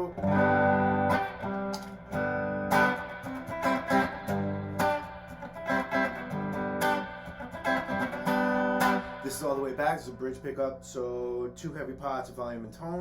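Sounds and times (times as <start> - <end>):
electric guitar strumming chords: 0.0 - 10.7.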